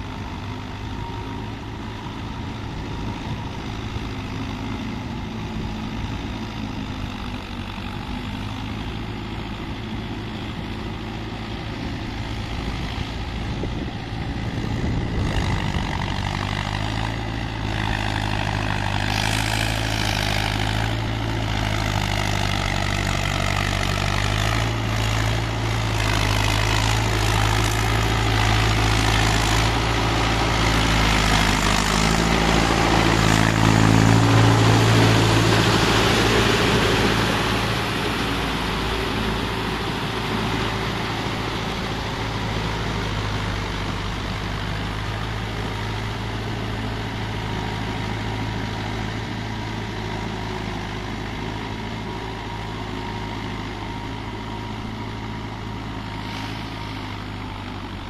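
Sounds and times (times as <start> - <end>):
tractor diesel engine running: 0.0 - 58.0
mud and water churning and splashing: 10.8 - 58.0.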